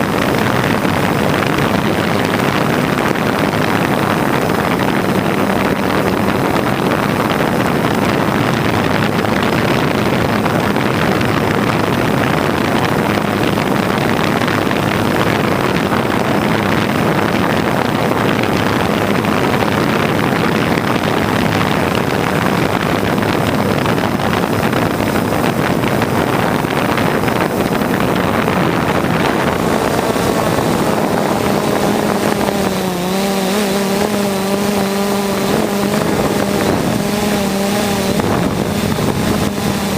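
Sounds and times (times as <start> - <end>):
constant humming tone: 0.0 - 39.9
propeller aircraft drone: 0.0 - 39.9
wind rush: 0.0 - 39.9.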